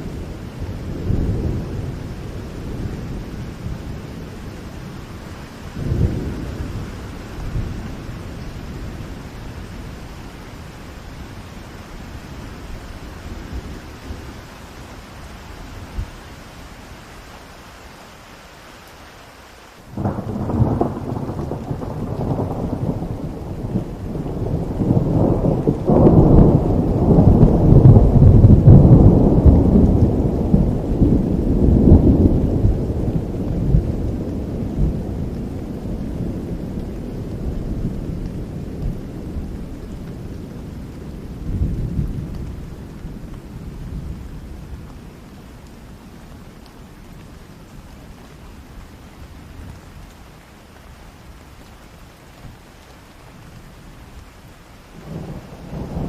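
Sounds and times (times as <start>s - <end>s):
low roll of thunder: 0.0s - 16.2s, 19.9s - 50.1s, 53.4s - 56.0s
rain falling in a forest: 0.0s - 56.0s.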